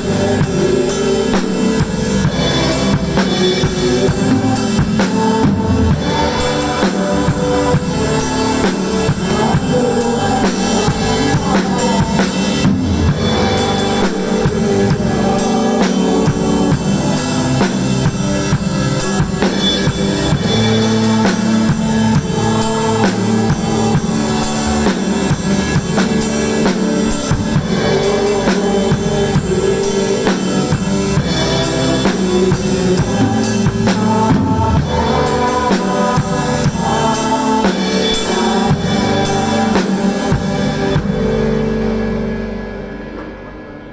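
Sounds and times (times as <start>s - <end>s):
drum kit playing: 0.0s - 43.9s
worship song backing track: 0.0s - 43.9s.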